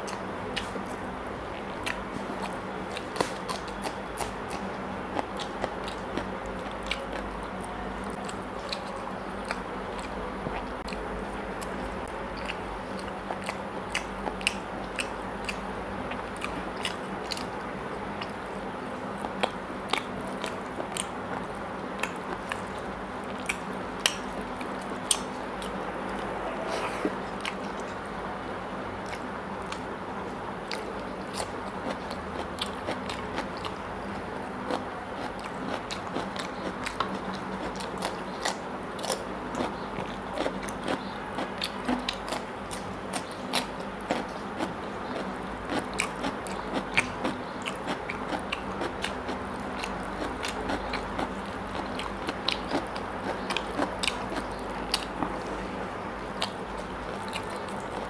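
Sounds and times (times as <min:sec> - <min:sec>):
man chewing food: 0:00.0 - 0:28.3, 0:29.0 - 0:58.0.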